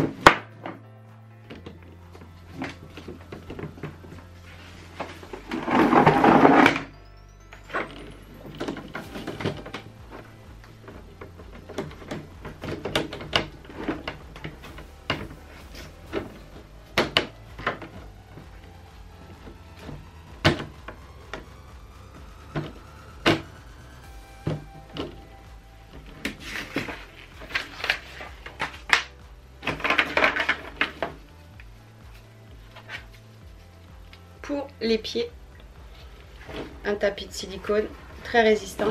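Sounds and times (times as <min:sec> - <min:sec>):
rustling: 0:07.7 - 0:38.9.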